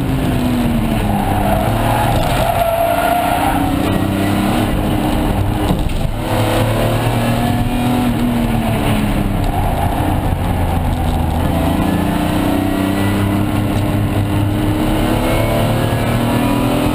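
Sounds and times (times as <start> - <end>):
car engine from inside cabin: 3.2 - 16.9.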